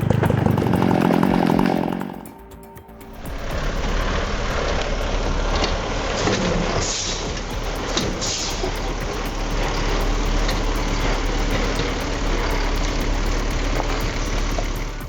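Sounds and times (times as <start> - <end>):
truck engine humming: 0.0 - 15.0.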